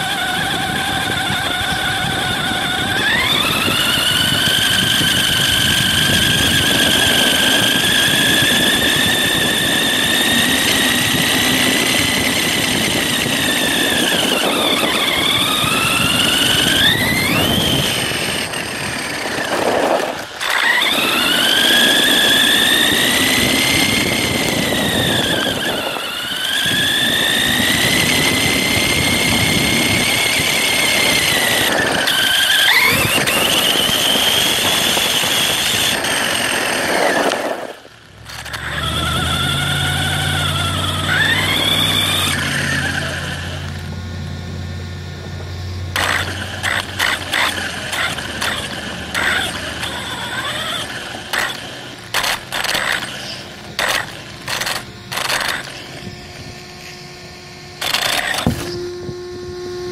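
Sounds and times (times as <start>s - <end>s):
rough rumble: 0.0s - 58.6s
toy truck motor whining: 0.0s - 59.9s.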